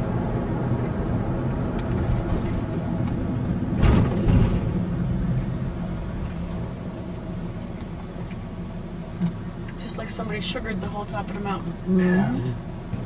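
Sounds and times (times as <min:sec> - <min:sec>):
road and engine rumble inside car: 0:00.0 - 0:13.0.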